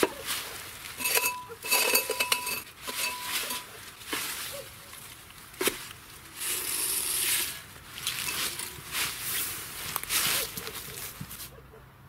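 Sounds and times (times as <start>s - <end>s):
dry leaves rustling: 0.0s - 11.6s.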